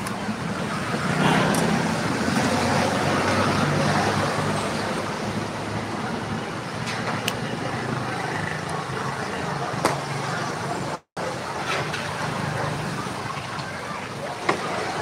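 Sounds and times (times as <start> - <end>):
motorbikes passing: 0.0 - 15.0
road noise: 0.0 - 15.0.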